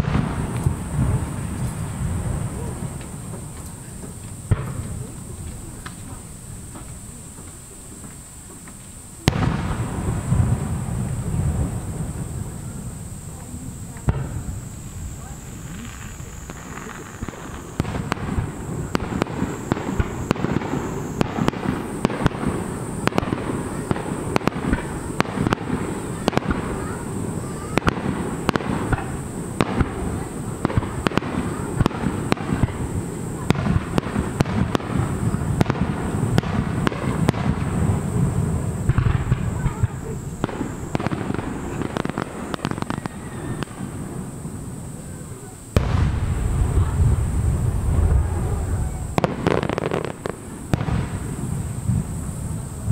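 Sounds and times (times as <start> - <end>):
fireworks bursting: 0.0 - 52.9.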